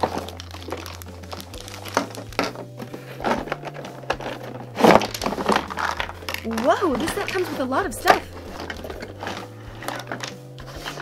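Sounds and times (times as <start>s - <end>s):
background music low notes: 0.0s - 11.0s
plastic bags crinkling: 0.0s - 11.0s
plastic toy parts knocking: 1.8s - 11.0s.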